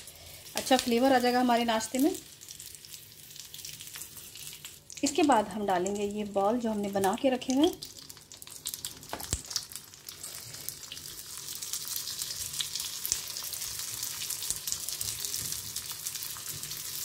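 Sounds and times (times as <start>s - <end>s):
hot oil sizzling and crackling: 0.0s - 17.0s.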